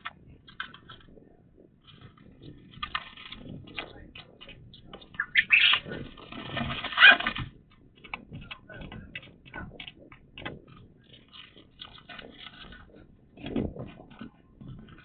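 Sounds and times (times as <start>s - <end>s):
light clicks and scratches: 0.0s - 15.0s
birds scratching and calling: 1.8s - 15.0s.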